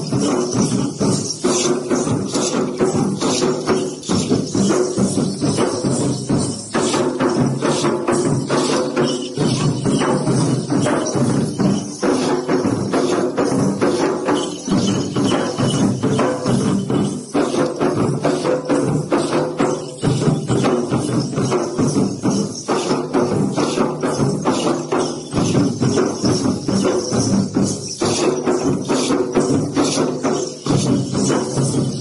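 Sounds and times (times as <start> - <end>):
drums beaten in fast rhythm: 0.0 - 32.0
jingling metal percussion: 0.0 - 32.0.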